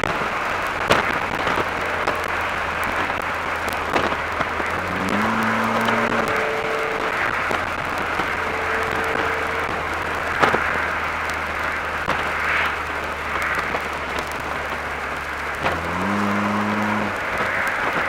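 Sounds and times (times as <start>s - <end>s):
car engine cruising: 0.0s - 18.0s
wind and tyre noise: 0.0s - 18.0s.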